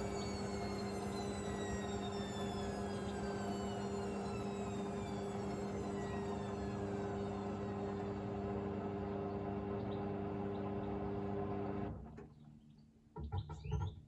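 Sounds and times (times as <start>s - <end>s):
washing machine hum and whine: 0.0s - 12.2s.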